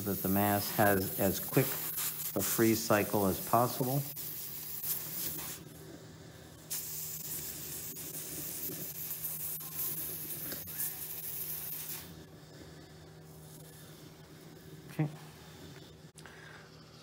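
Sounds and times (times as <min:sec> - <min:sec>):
cryo pen hissing gas spray: 0:00.0 - 0:17.0.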